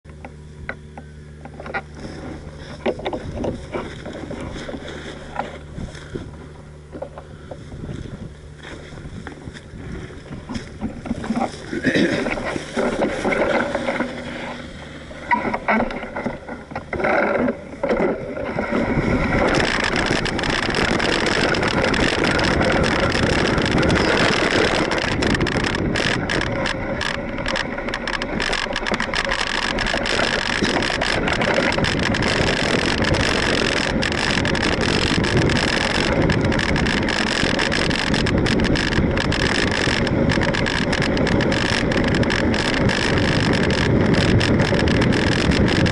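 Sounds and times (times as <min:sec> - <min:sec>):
bike clicks and rattles: 0:00.0 - 0:45.9
bike tyres rushing on gravel: 0:01.9 - 0:06.6, 0:07.3 - 0:45.9.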